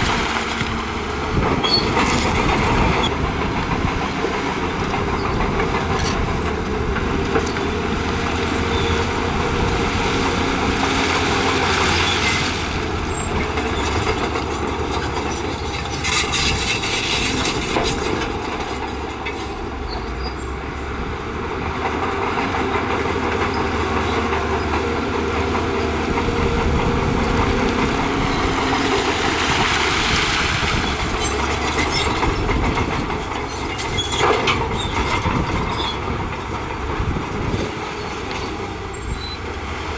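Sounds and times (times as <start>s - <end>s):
bulldozer diesel engine running: 0.0s - 39.9s
steel tracks clattering: 0.0s - 39.9s.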